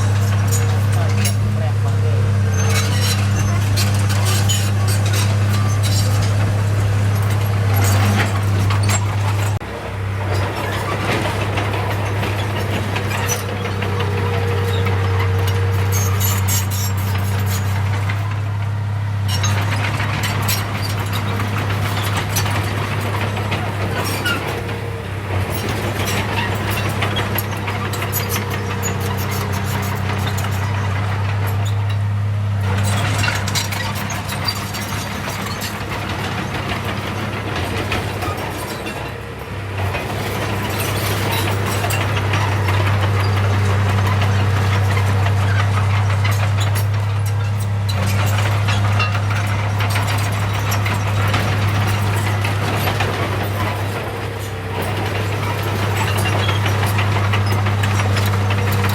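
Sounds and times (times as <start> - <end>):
heavy machine diesel engine: 0.0 - 58.9.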